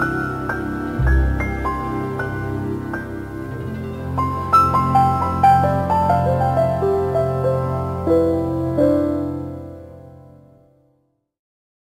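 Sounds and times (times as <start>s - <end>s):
held piano chord: 0.0s - 10.4s.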